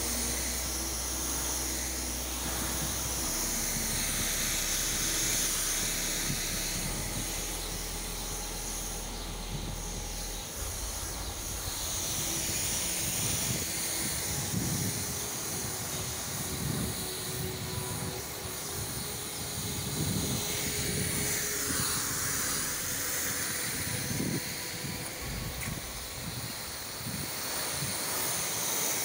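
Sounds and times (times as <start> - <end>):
pressure washer machine hum: 0.0 - 29.0
pressure washer spraying water: 0.0 - 29.0.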